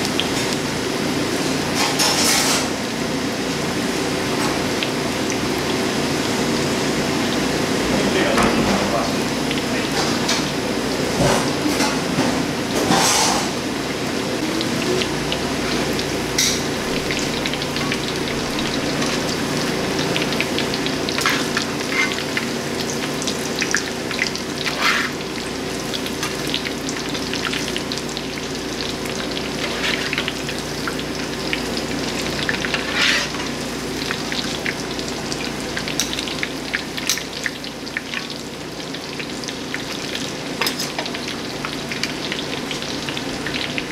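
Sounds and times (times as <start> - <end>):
food deep-frying in oil: 0.0 - 43.9.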